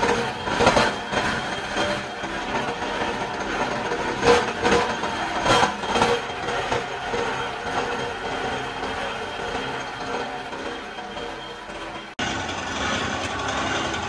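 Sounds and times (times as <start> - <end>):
rubber granulator machine running: 0.0 - 14.0
sharp cracks and clatter: 0.0 - 14.0.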